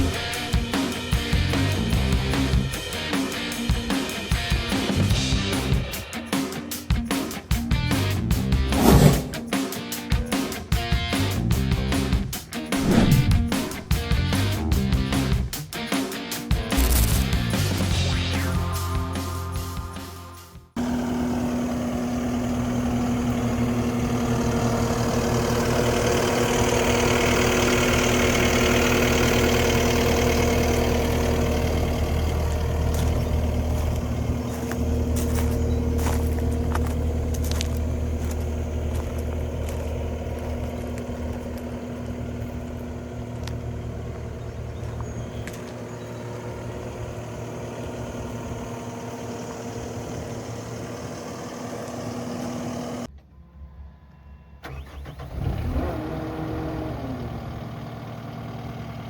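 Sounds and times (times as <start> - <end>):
diesel engine idling: 0.0 - 6.0, 10.9 - 15.5, 16.7 - 54.0, 54.6 - 59.0
constant whine: 0.0 - 6.7, 10.9 - 15.6, 16.5 - 55.4.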